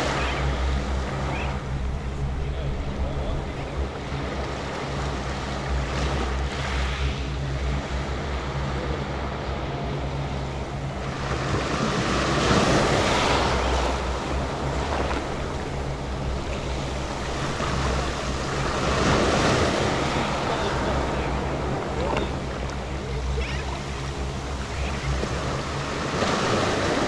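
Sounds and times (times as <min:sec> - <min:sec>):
small waves lapping on sand: 0:00.0 - 0:27.0
steady low hum: 0:00.0 - 0:27.0.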